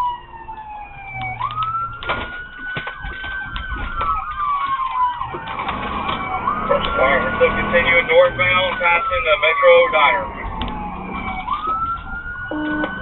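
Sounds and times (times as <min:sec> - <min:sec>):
police siren wailing: 0:00.0 - 0:13.0.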